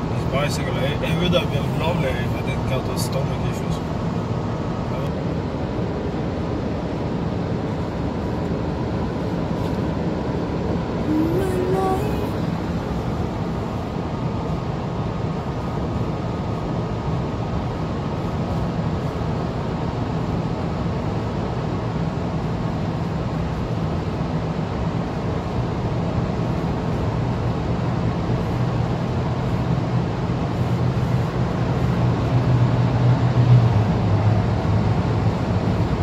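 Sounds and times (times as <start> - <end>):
car cabin road noise: 0.0 - 36.0.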